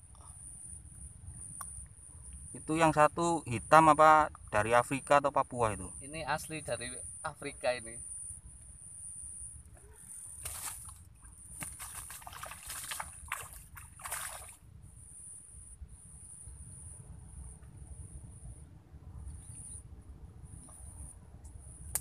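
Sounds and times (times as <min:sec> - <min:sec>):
insect trilling: 0:00.3 - 0:18.5.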